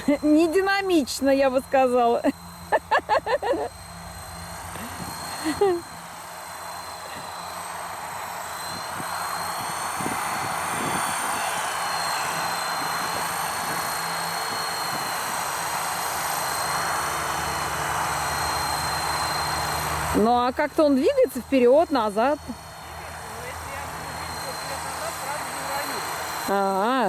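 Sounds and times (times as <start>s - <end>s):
helicopter rotor and engine: 0.0s - 27.0s
turbine whine: 0.0s - 27.0s.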